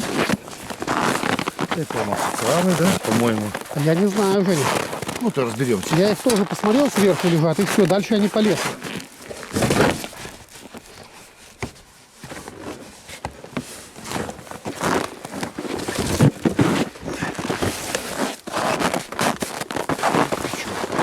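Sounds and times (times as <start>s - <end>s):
clicks knocks and scrapes of handling: 0.0s - 20.6s
packaging rustling and crinkling: 0.0s - 21.0s.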